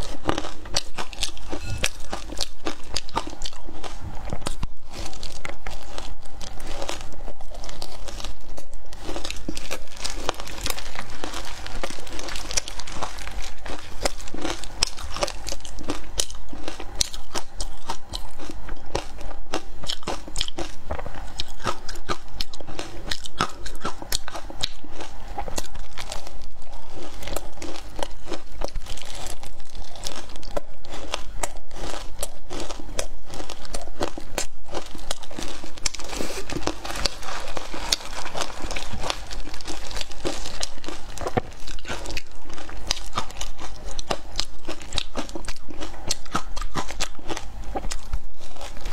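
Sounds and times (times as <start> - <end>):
ice being crunched and chewed: 0.0 - 48.9.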